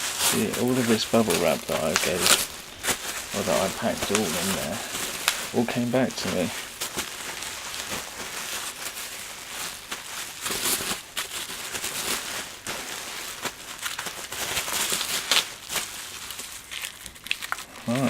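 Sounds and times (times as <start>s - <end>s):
bubble wrap crinkling: 0.0s - 18.0s.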